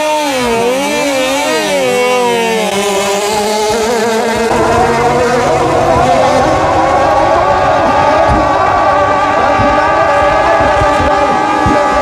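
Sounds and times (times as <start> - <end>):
boat engine revving: 0.3 - 12.0.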